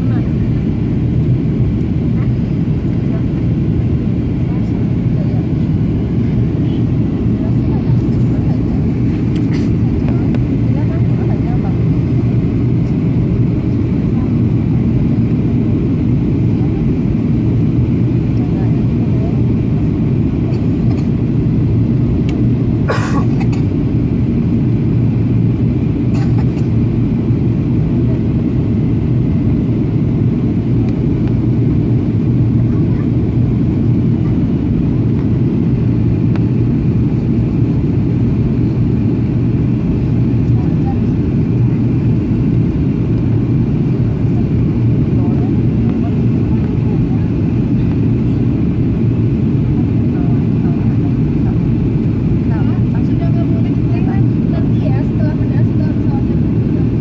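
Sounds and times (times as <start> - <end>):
airplane cabin drone: 0.0 - 57.0
jet engines rumbling: 0.0 - 57.0.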